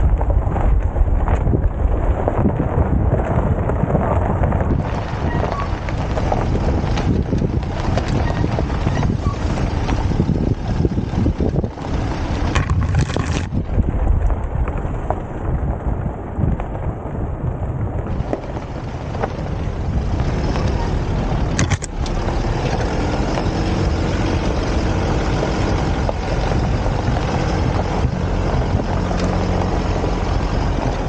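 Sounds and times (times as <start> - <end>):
engine and tyres on gravel rumble: 0.0 - 31.0
wind buffeting microphone: 0.0 - 31.0.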